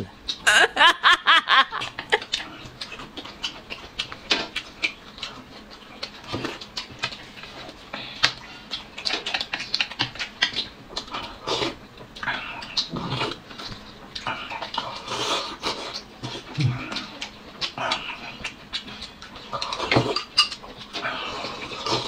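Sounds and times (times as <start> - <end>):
chewing and lip smacking: 1.8 - 22.0.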